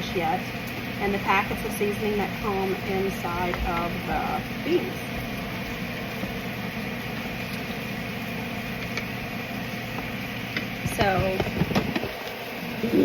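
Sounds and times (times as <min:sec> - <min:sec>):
appliance fan humming: 0:00.0 - 0:13.0.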